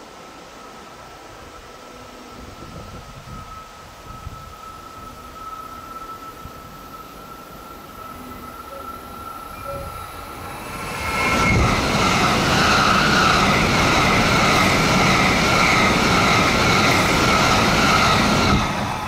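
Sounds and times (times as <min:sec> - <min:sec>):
train passing close by: 0:00.0 - 0:19.0.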